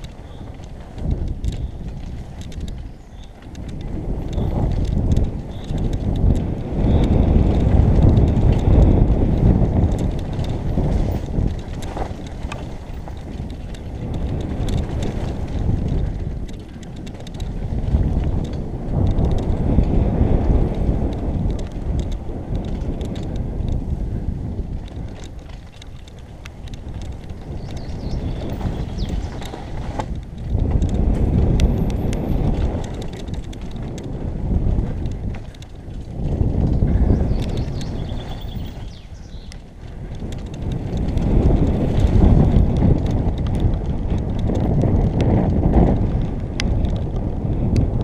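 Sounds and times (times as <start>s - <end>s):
tyres rolling over dirt: 0.0s - 47.4s
bike clicks and rattles: 0.0s - 48.0s
wind buffeting microphone: 0.0s - 48.0s.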